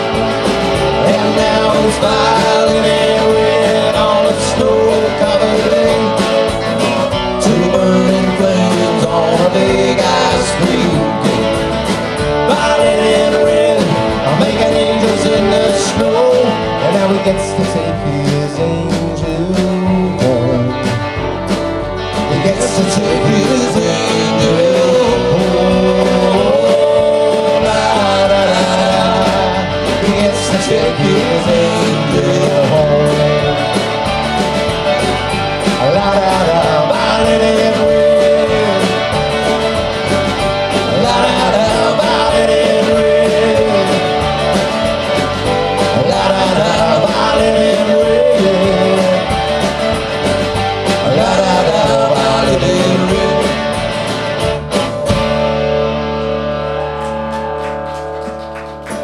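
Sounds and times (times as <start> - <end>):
drums: 0.0 - 59.0
electric bass: 0.0 - 59.0
strummed acoustic guitar: 0.0 - 59.0.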